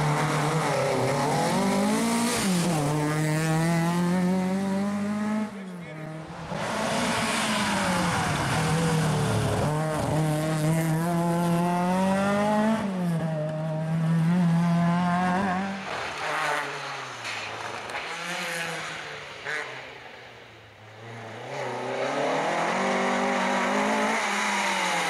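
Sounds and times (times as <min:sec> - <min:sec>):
rally car engine driven hard: 0:00.0 - 0:19.8, 0:21.0 - 0:25.0.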